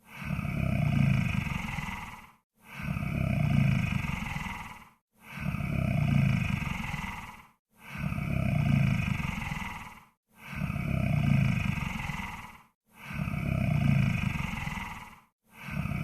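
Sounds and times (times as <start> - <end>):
deep snoring: 0.0 - 16.0.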